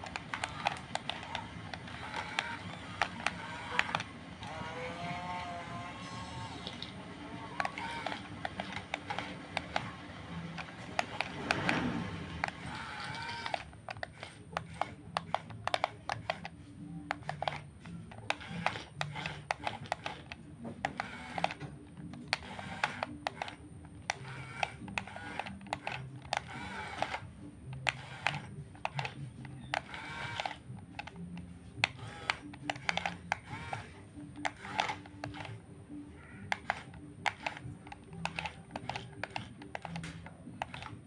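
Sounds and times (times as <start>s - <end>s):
small electric motors humming: 0.0s - 35.7s.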